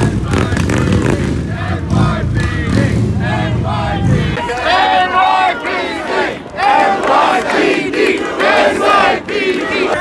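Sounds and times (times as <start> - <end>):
crowd shouting: 0.0 - 10.0.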